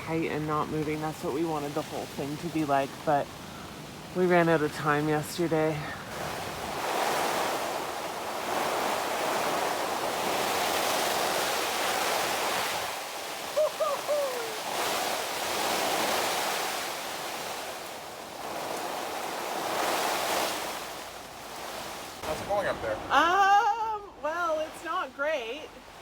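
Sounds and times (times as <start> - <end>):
strong wind gusting: 0.0 - 26.0.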